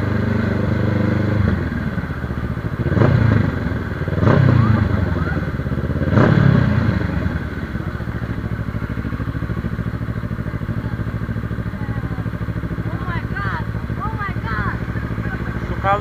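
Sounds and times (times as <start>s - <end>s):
motorcycle engine revving and puttering: 0.0s - 16.0s.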